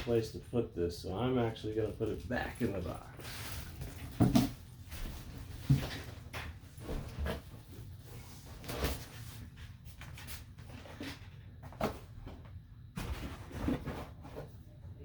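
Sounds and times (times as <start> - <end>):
items packed into cardboard box: 1.4 - 14.6.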